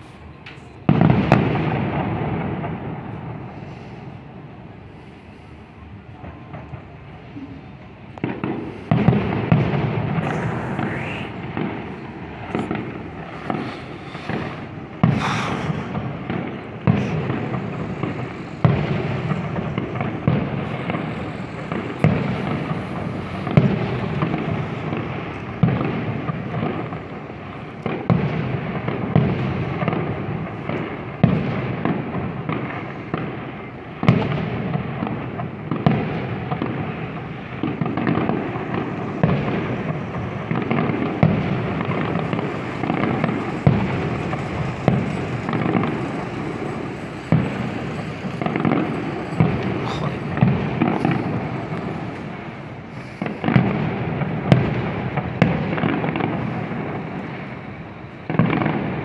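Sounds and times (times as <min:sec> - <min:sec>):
continuous fireworks display noise: 0:00.0 - 0:59.0
firework shells bursting: 0:08.1 - 0:33.3, 0:34.0 - 0:59.0.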